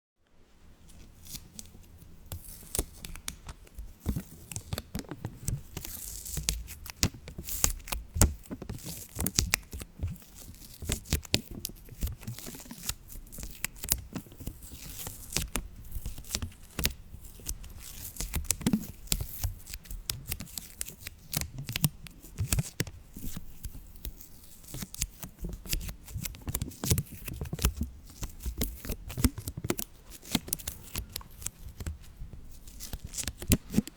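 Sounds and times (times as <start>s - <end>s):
material crinkling and crackling: 0.8s - 33.9s.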